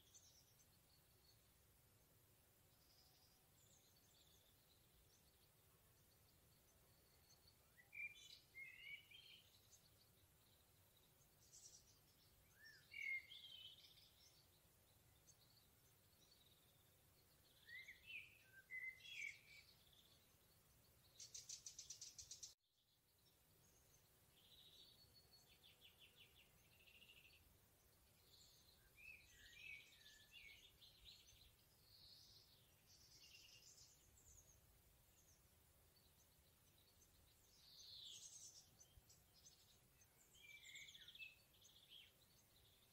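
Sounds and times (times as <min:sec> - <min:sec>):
songbirds whistling and warbling: 0:00.0 - 0:42.9.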